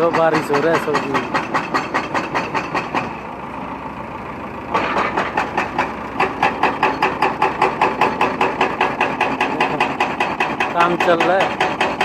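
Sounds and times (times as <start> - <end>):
engine chugging: 0.0 - 12.0.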